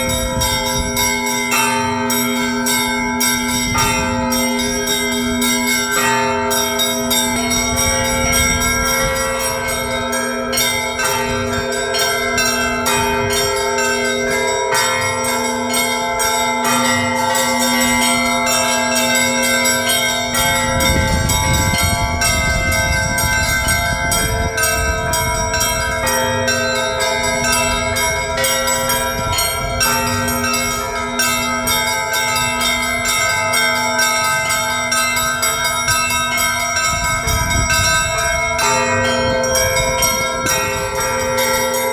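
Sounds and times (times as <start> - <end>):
deep large bell ringing: 0.0 - 41.9
small church bells pealing: 0.0 - 41.9.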